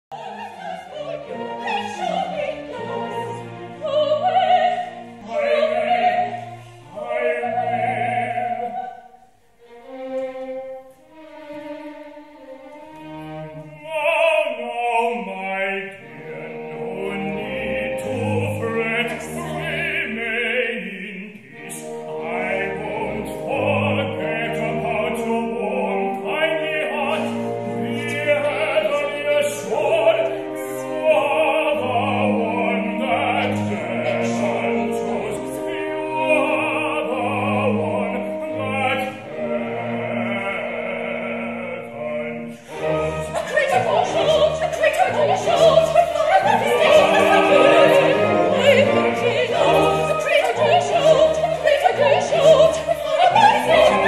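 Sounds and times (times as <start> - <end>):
opera singing: 0.1 - 10.0, 13.0 - 54.0
small orchestra: 0.1 - 54.0.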